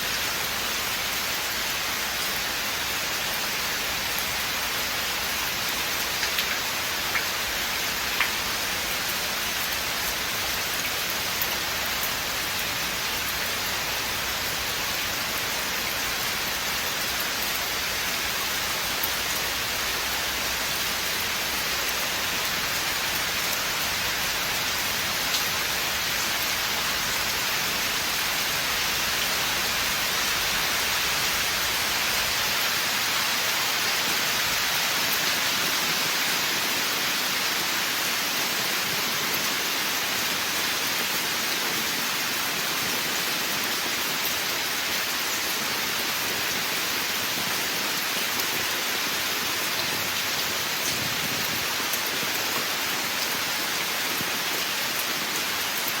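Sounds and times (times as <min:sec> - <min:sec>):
steady rain in a forest: 0:00.0 - 0:56.0.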